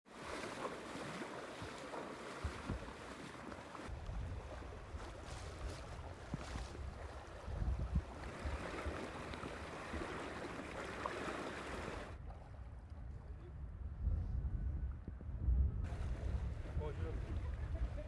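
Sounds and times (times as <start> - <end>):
floodwater sloshing and splashing: 0.0 - 13.0, 15.9 - 18.0
wind buffeting microphone: 1.5 - 3.0, 3.9 - 11.0, 11.6 - 18.0.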